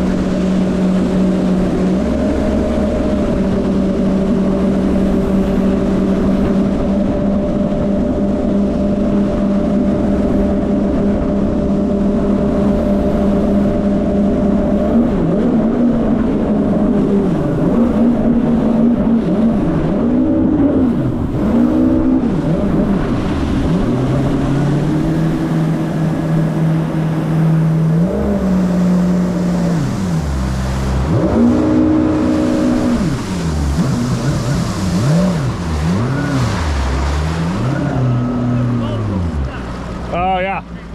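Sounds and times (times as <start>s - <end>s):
personal watercraft engine running: 0.0s - 40.9s
wind and water rushing: 0.0s - 40.9s.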